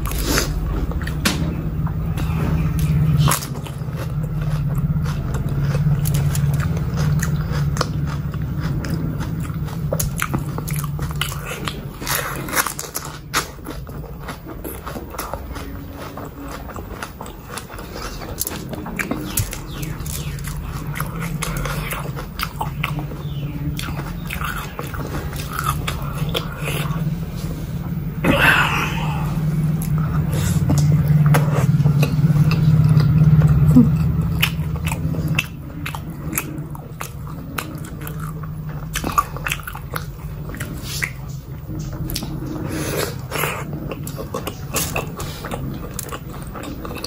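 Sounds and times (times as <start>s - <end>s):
close chewing: 0.0s - 47.0s.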